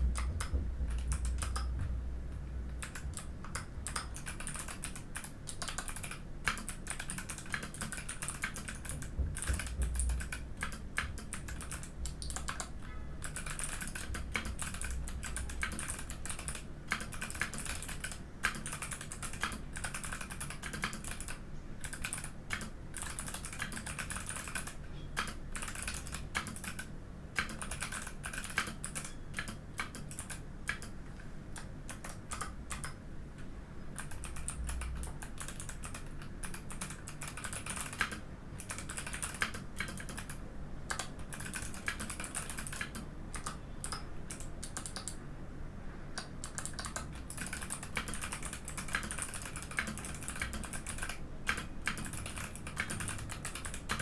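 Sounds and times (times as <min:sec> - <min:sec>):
fast typing on mechanical keyboard: 0:00.0 - 0:01.8, 0:02.8 - 0:33.0, 0:34.0 - 0:45.2, 0:46.2 - 0:54.0.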